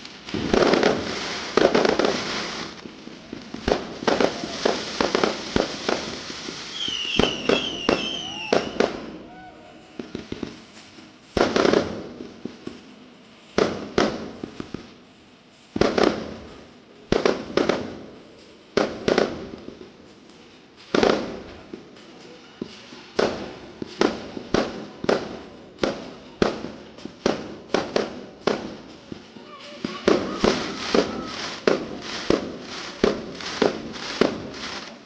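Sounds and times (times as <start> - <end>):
fireworks banging: 0.0 - 35.0.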